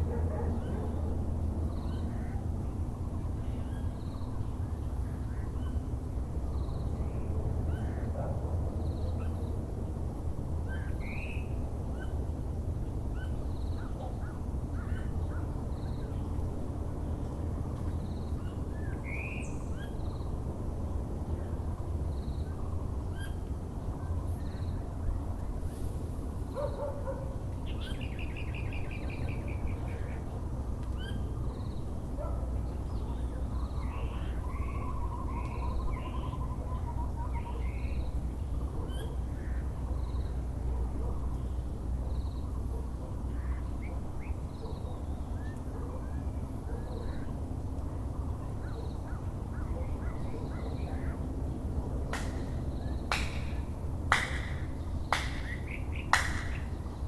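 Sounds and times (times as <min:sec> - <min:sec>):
birds calling and chirping: 0:00.0 - 0:09.9, 0:10.5 - 0:57.0
low background rumble: 0:00.0 - 0:57.0.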